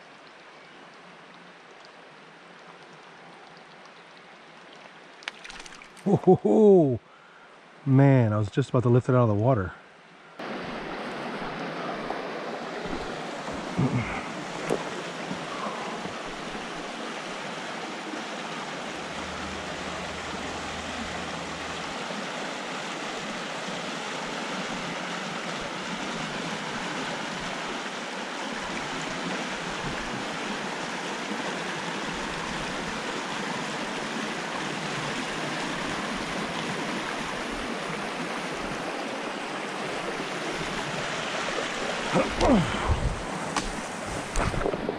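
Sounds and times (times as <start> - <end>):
creek water rushing: 0.0 - 44.9.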